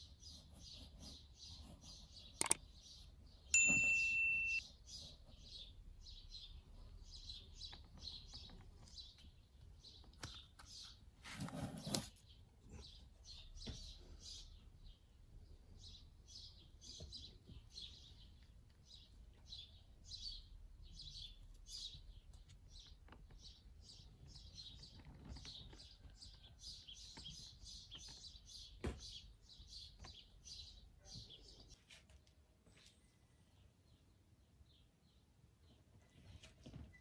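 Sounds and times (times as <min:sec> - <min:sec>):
small bird chirping: 0:00.0 - 0:31.8.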